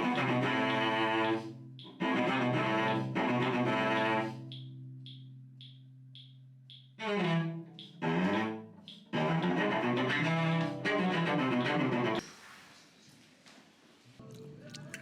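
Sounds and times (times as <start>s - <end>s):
cello bowing low notes: 0.0s - 12.2s.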